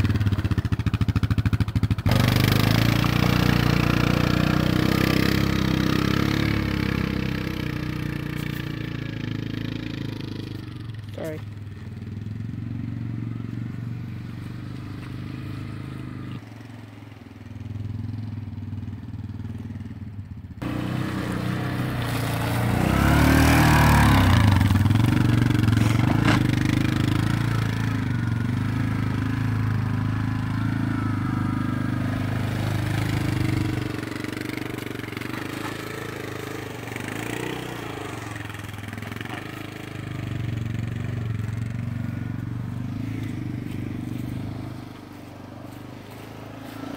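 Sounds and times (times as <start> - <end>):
quad bike engine in mud: 0.0 - 46.9.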